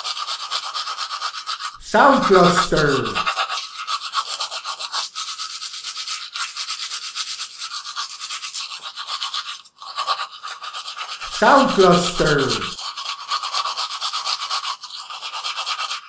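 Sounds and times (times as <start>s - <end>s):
toothbrush scrubbing teeth: 0.0s - 1.8s, 3.2s - 11.2s, 12.8s - 16.0s.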